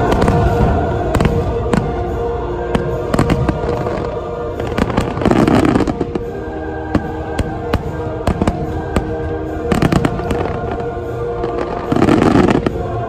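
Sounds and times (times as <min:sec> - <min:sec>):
fireworks bursting: 0:00.0 - 0:13.0
music with held tones: 0:00.0 - 0:13.0.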